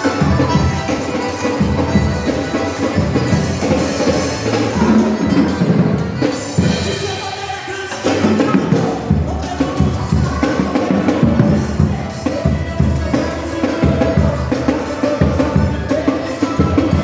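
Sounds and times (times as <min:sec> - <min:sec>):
drum kit playing: 0:00.0 - 0:17.0
worship song with singing: 0:00.0 - 0:17.0.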